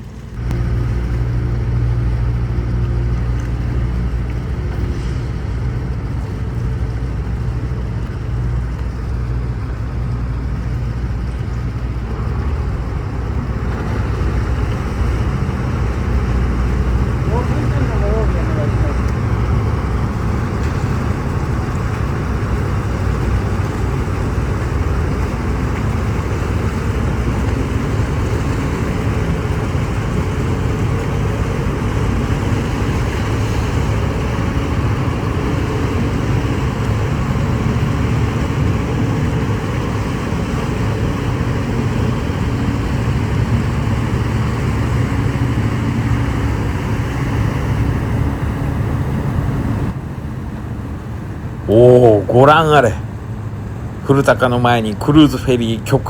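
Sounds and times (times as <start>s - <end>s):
ship engines droning: 0.0s - 56.0s
wind and water rushing: 0.0s - 56.0s.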